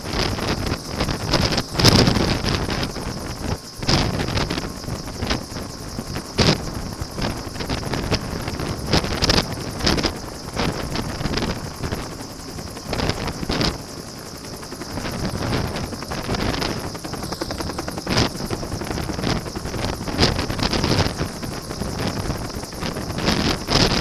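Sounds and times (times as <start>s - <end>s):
helicopter engine and rotor: 0.0s - 24.0s
high-pitched whine: 0.0s - 24.0s
wind buffeting microphone: 0.0s - 24.0s.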